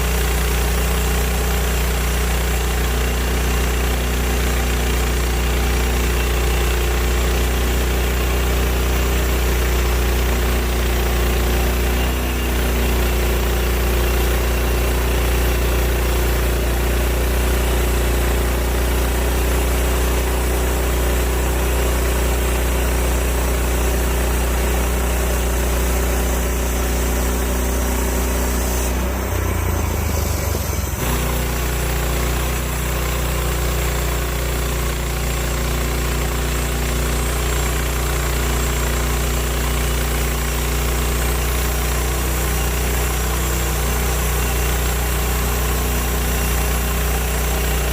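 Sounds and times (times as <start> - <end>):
bandsaw mill cutting log: 0.0 - 47.9.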